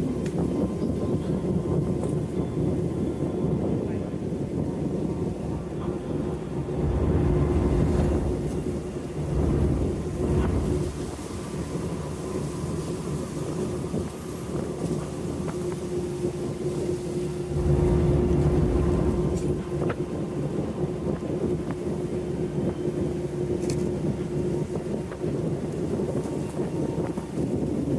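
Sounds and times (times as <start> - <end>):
ship engine droning: 0.0 - 27.9.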